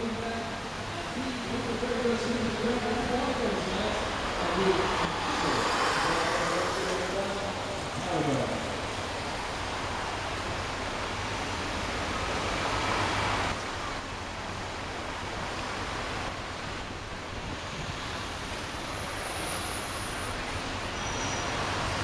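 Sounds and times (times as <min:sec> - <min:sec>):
car engine hum: 0:00.0 - 0:22.0
road hiss: 0:00.0 - 0:22.0.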